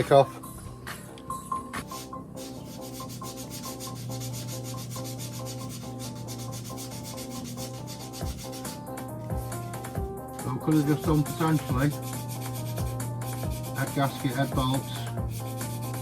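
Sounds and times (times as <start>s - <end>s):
steady low hum: 0.0s - 16.0s
fast rasping of sanding: 1.8s - 16.0s.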